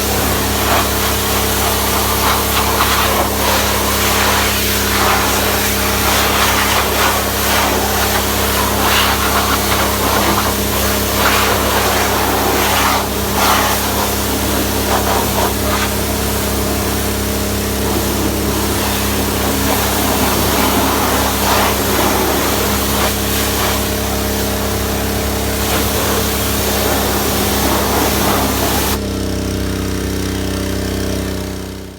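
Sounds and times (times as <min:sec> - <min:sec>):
water spray hissing: 0:00.0 - 0:29.0
pressure washer engine running: 0:00.0 - 0:31.9.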